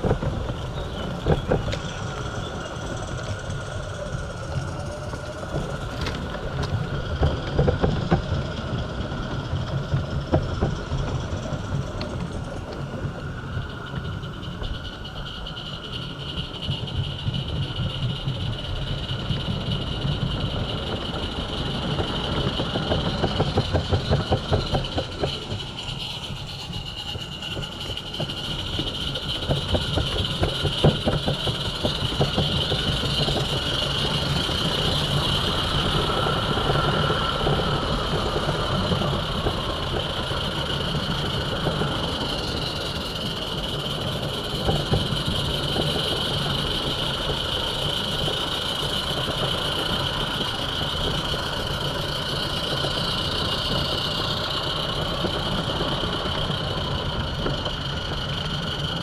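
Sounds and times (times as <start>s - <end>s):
model train running on track: 0.0s - 59.0s.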